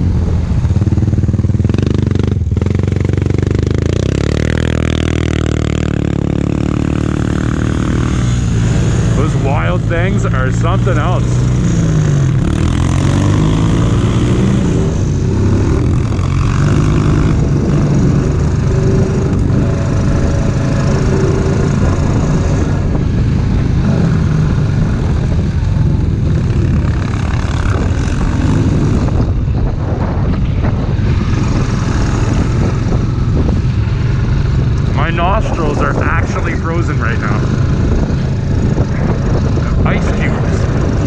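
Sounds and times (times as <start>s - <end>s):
atv engine running: 0.0s - 41.0s
wind on microphone: 0.0s - 41.0s.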